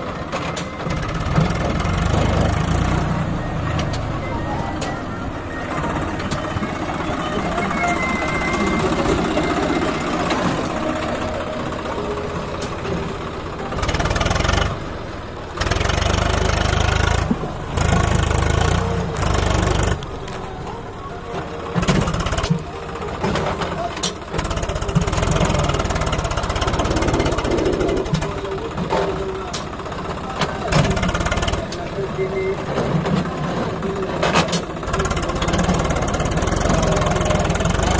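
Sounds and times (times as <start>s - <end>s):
tractor diesel engine under load: 0.0s - 37.9s.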